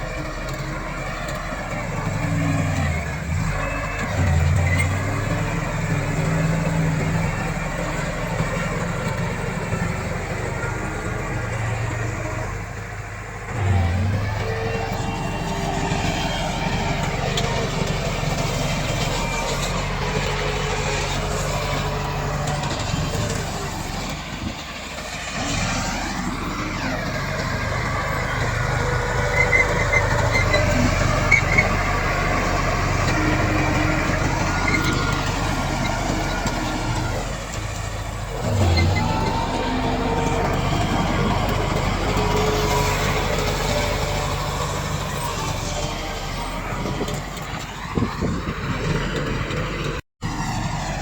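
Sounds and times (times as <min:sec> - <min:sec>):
bulldozer diesel engine under load: 0:00.0 - 0:51.0.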